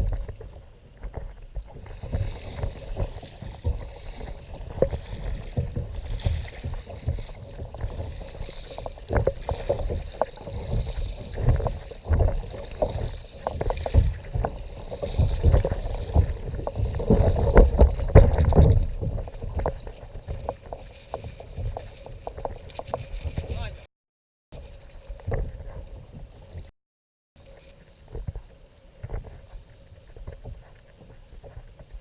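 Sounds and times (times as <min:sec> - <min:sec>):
water sloshing against hull: 0:00.0 - 0:23.9, 0:24.6 - 0:26.7, 0:27.4 - 0:32.0.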